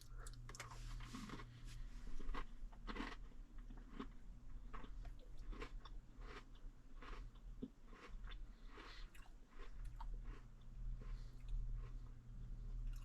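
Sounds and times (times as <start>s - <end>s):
person chewing cookie crunches: 0.0s - 13.0s.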